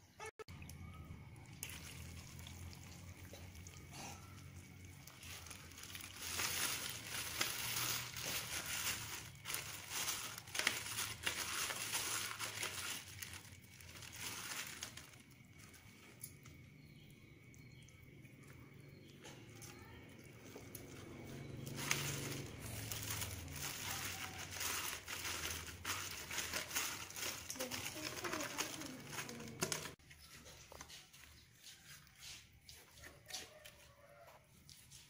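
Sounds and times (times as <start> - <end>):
scraping and crinkling of syrup: 1.5 - 35.0.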